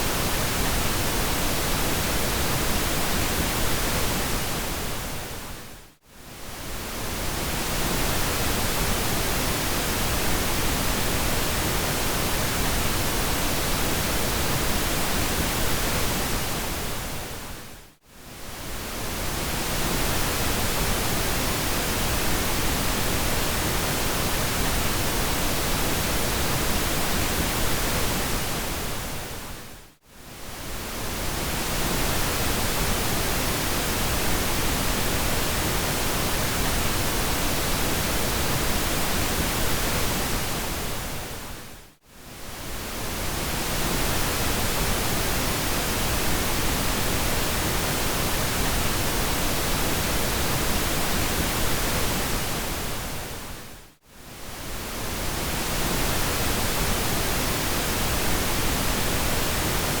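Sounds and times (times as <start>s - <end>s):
steady pink noise hiss: 0.0s - 60.0s.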